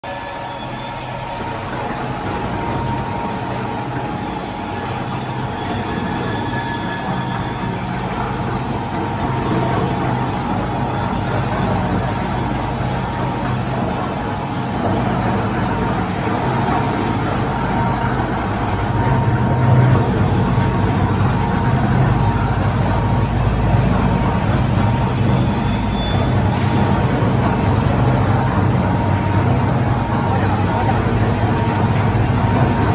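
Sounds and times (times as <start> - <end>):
high whine: 0.0 - 32.9
low hum: 0.0 - 32.9.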